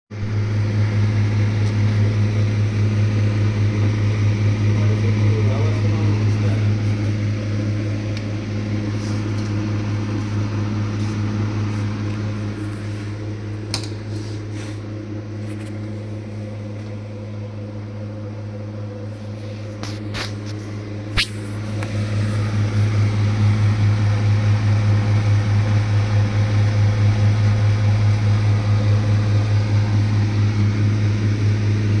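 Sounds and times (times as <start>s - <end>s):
freezer pulsing low hum: 0.1s - 32.0s.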